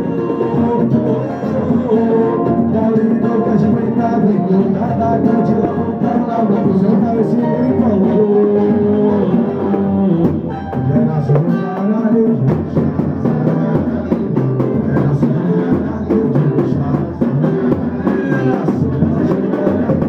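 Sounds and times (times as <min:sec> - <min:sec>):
bass drum beat: 0:00.0 - 0:20.0
live samba music: 0:00.0 - 0:20.0.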